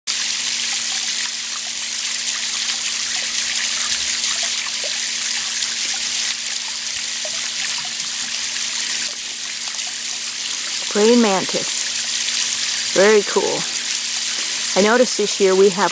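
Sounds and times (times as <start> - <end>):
water running from garden hose: 0.1 - 15.9.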